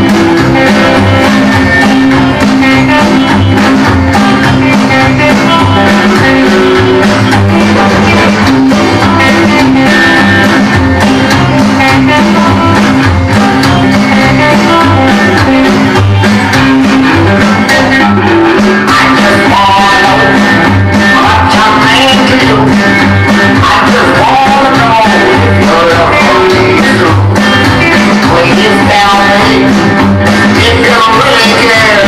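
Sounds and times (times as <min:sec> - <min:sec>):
rock and roll guitar music: 0:00.0 - 0:32.0.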